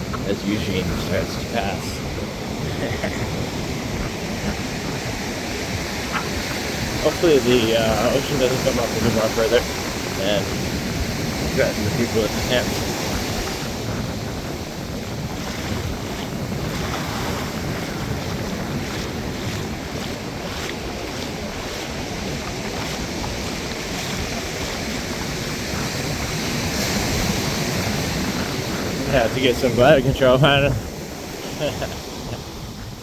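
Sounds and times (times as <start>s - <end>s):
ocean surf washing up beach: 0.0s - 33.0s
wind rumbling on microphone: 0.0s - 33.0s.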